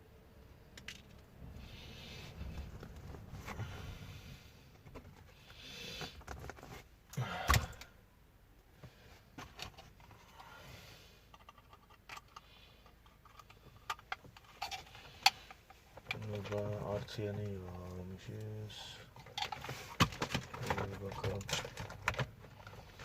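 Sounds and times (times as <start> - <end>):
hands rustling with wires and tools: 0.8 - 7.8, 8.8 - 23.0.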